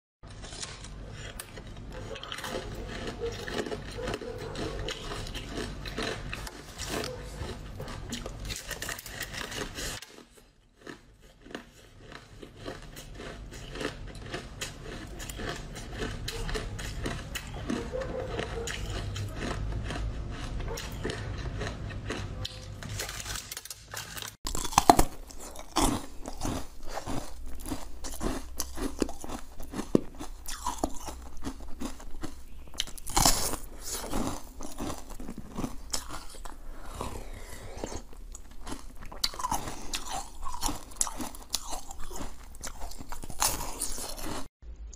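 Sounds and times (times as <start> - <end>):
biting and chewing corn on the cob: 0.2 - 44.9.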